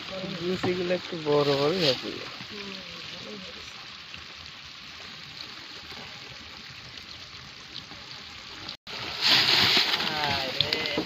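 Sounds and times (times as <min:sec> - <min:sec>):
soft watery hiss: 0:00.0 - 0:11.0.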